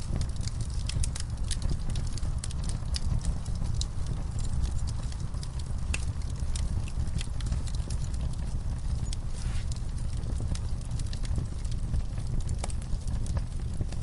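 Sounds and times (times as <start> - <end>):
fire crackling and popping: 0.0 - 14.0
fire low rumble: 0.0 - 14.0.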